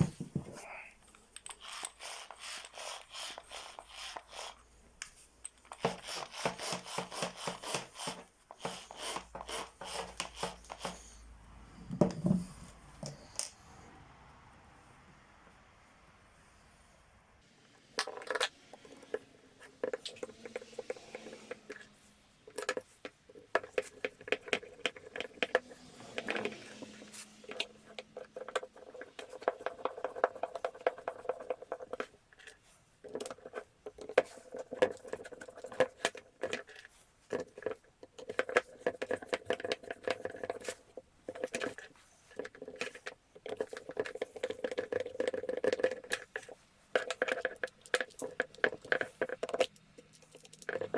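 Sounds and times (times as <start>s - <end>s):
small parts and tools rattling: 0.0s - 11.1s, 17.6s - 50.9s.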